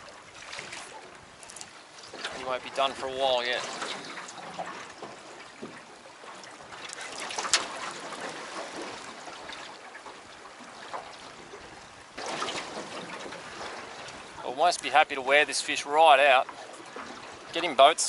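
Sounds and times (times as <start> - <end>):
water lapping against boat: 0.0 - 18.0.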